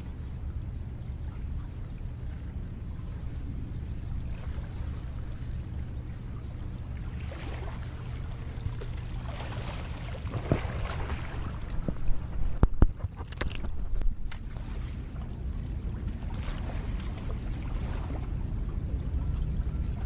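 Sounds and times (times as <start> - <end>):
wind rumble on microphone: 0.0 - 20.0
seawater splashing against shore: 1.2 - 20.0.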